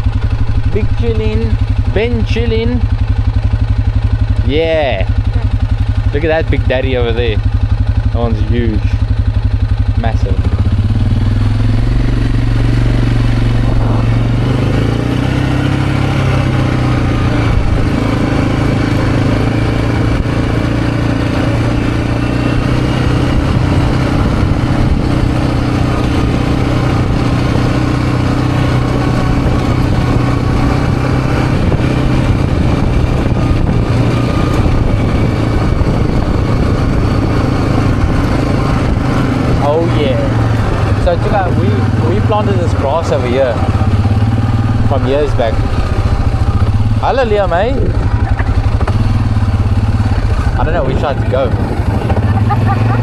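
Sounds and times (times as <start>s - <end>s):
vehicle engine running steadily: 0.0s - 53.0s.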